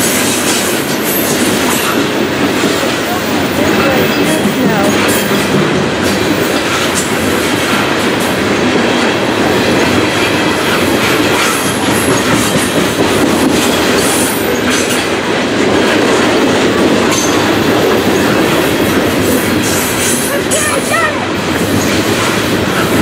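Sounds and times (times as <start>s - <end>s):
steel wheels clattering on rails: 0.0s - 23.0s.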